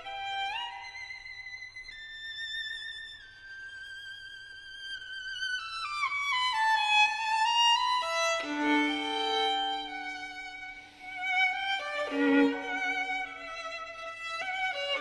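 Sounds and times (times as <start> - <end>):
violin playing slow melody: 0.0 - 15.0.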